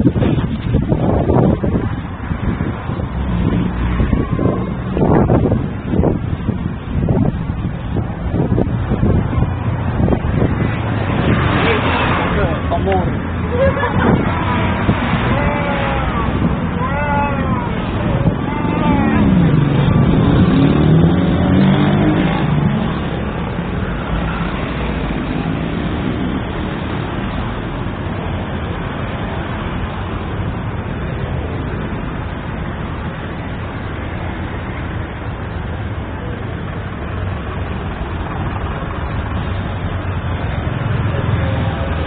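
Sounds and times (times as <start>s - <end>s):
passing cars: 0.0s - 42.0s.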